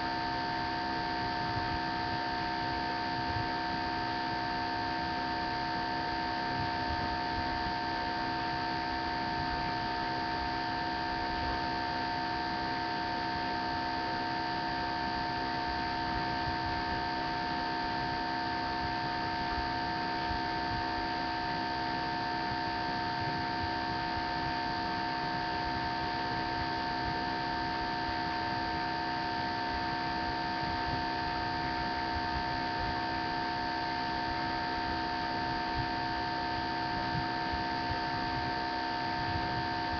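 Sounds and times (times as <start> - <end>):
electrical hum over hiss: 0.0 - 39.9.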